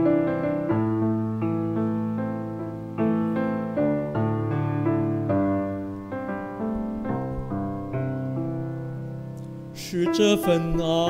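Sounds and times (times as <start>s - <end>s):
slow hymn piano chords: 0.0s - 11.0s.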